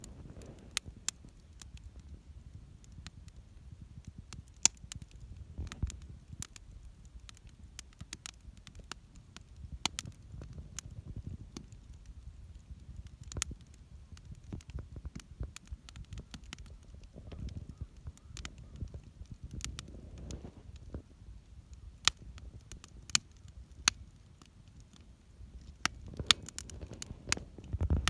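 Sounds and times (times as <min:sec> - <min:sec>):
campfire crackling and popping: 0:00.0 - 0:28.0
low fire rumble: 0:00.0 - 0:28.0.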